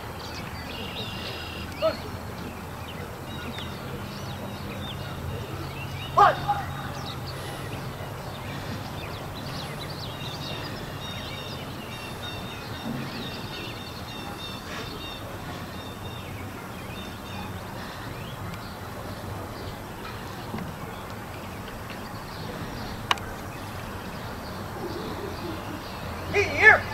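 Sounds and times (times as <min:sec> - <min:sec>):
songbirds chirping and trilling: 0:00.0 - 0:26.9.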